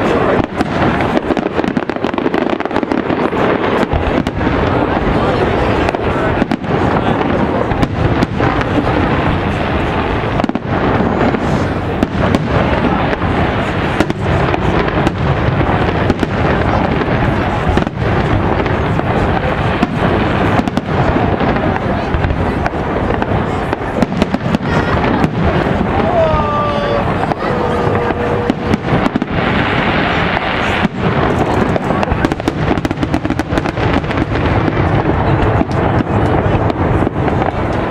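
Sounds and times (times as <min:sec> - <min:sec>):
fireworks booming and crackling: 0:00.0 - 0:37.9.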